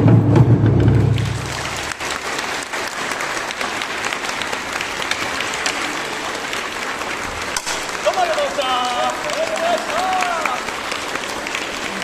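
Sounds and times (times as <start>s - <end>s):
audience applauding: 0.9s - 12.0s.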